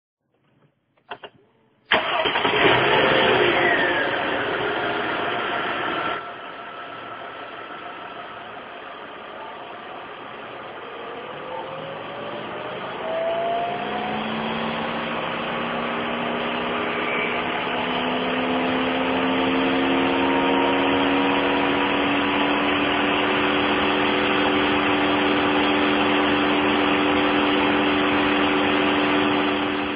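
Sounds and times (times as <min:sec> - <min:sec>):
car engine idling: 0:01.9 - 0:29.9
engine whine rising in pitch: 0:01.9 - 0:29.9.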